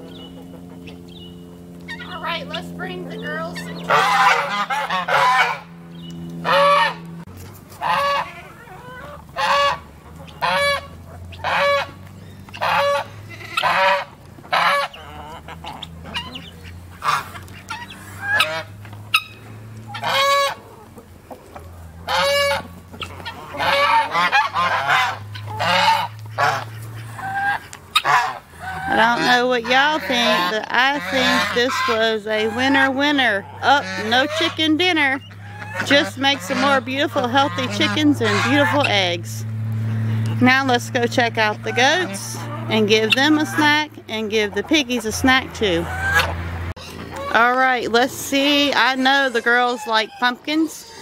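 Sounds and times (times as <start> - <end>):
geese honking: 0.0 - 51.0.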